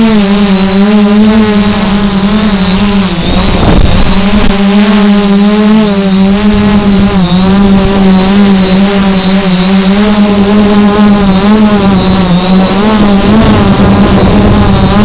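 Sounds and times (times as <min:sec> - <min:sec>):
drone motors humming and whining: 0:00.0 - 0:15.0
rush of noise: 0:00.0 - 0:15.0.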